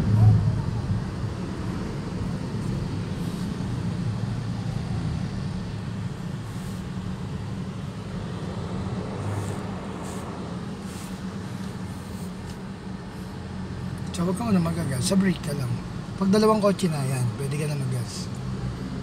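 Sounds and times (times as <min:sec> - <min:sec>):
car engine hum: 0:00.0 - 0:19.0
road noise inside car: 0:00.0 - 0:19.0.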